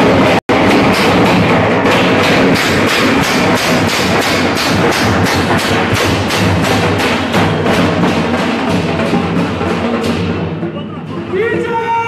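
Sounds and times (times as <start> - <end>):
frame drums beaten with sticks: 0.0 - 12.0.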